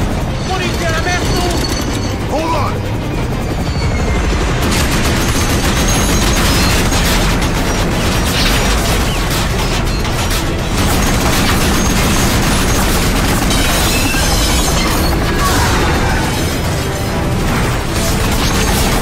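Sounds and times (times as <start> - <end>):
rapid gunfire: 0.0 - 2.6, 4.1 - 19.0
machinery rumble: 0.0 - 19.0.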